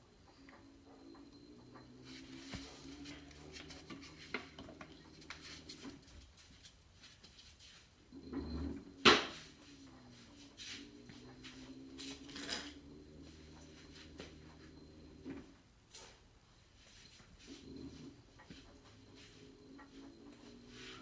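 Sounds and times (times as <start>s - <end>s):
washing machine motor hum: 0.0s - 21.0s.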